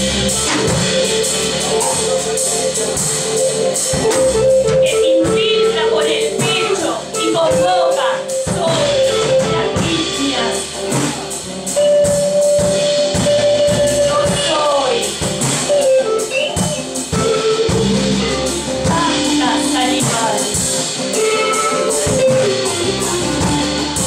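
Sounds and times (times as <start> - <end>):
drum kit and cymbals: 0.0 - 24.0
electric guitar: 0.0 - 24.0.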